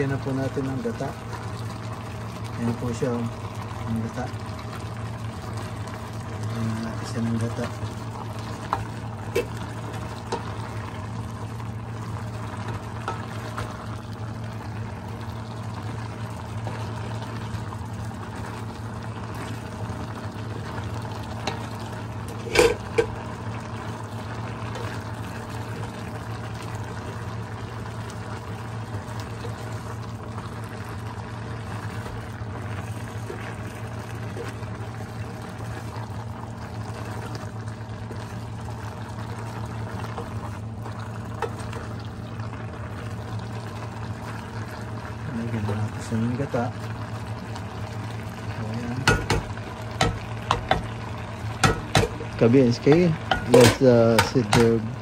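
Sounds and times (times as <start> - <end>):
steady low hum: 0.0 - 55.0
wooden spoon stirring liquid in pan: 4.4 - 14.8, 15.5 - 55.0.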